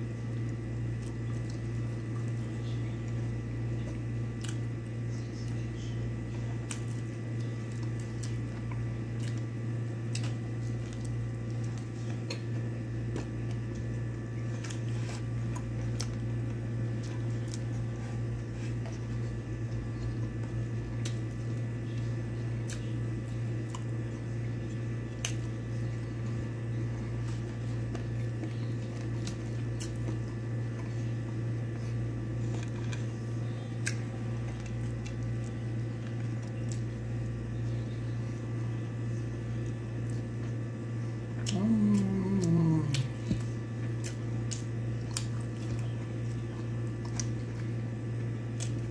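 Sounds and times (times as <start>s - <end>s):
person chewing and smacking: 0.0s - 48.9s
steady low hum: 0.0s - 48.9s.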